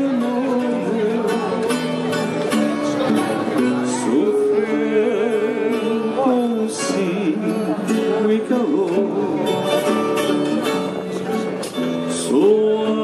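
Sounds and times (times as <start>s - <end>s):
plucked guitar notes: 0.0s - 13.0s.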